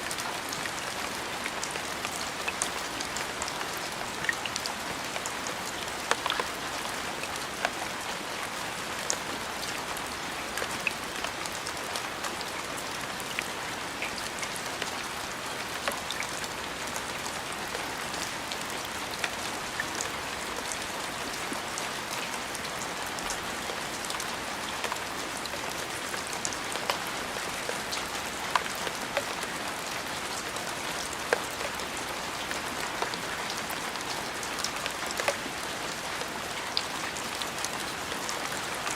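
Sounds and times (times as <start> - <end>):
steady rain pattering: 0.0 - 38.9.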